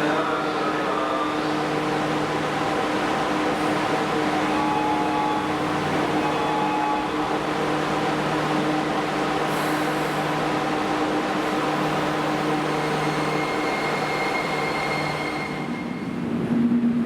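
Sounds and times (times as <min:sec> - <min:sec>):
subway train running on rails: 0:00.0 - 0:17.0.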